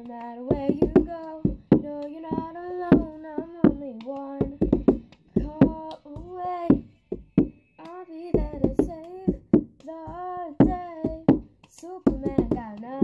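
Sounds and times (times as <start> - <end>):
girl singing: 0.0 - 13.0
hand claps: 0.0 - 13.0.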